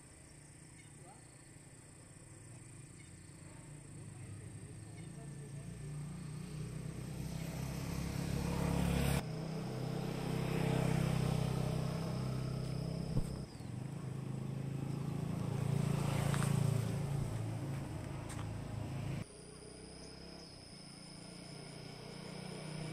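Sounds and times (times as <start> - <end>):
motorcycle engine and exhaust running: 2.4 - 22.9.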